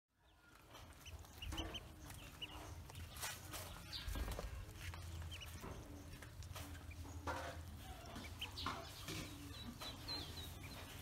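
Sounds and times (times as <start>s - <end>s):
ducklings peeping: 0.2s - 11.0s.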